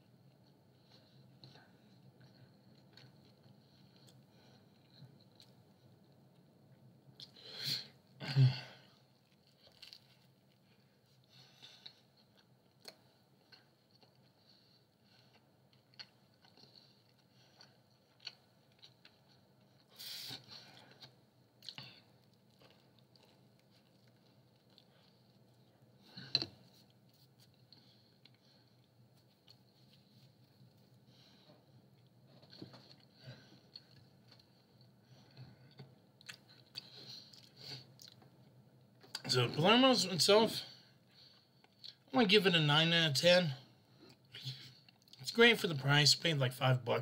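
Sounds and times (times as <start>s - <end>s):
faint chewing with mouth clicks: 0.0s - 7.4s, 8.8s - 39.3s, 41.0s - 42.1s, 43.8s - 45.2s.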